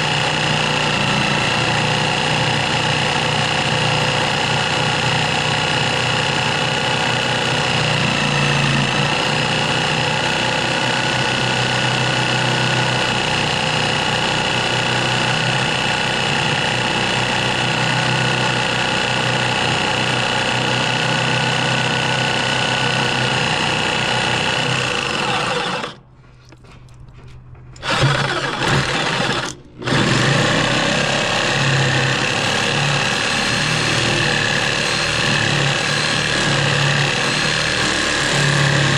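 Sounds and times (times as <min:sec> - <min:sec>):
power tool cutting metal bolt: 0:00.0 - 0:26.0, 0:27.8 - 0:38.9.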